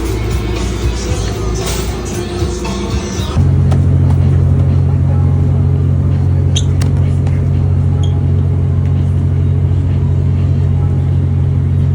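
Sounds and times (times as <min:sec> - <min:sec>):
machinery hum and rumble: 0:00.0 - 0:11.9.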